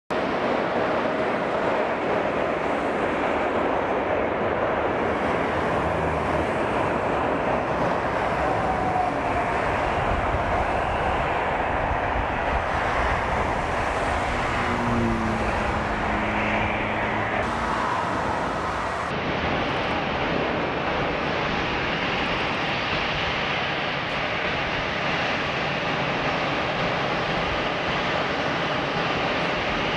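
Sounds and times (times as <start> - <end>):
jet engines roaring at takeoff: 0.1 - 29.9.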